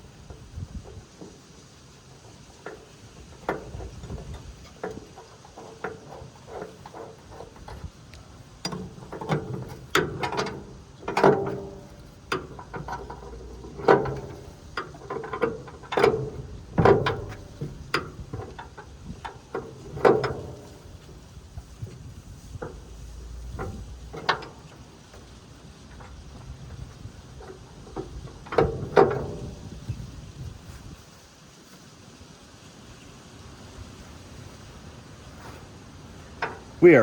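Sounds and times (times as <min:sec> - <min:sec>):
hand tools clanking on metal: 0:00.0 - 0:30.0, 0:36.2 - 0:37.0.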